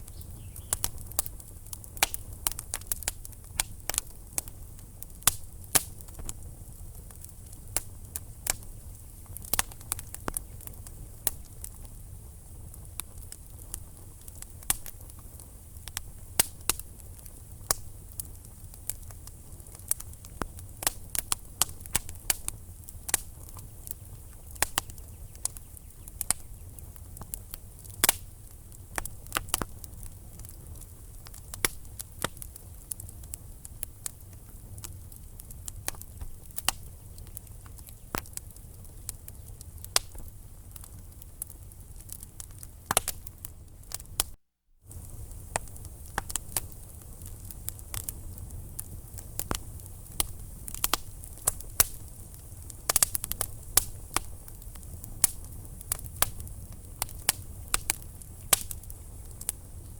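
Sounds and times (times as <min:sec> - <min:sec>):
sharp pops and snaps: 0:00.0 - 0:08.7, 0:12.8 - 0:16.9, 0:17.6 - 0:28.3, 0:28.9 - 0:40.9, 0:42.0 - 0:43.3, 0:43.9 - 0:59.9
logs crackling: 0:00.0 - 0:59.9
low rumble of flames: 0:00.0 - 0:59.9.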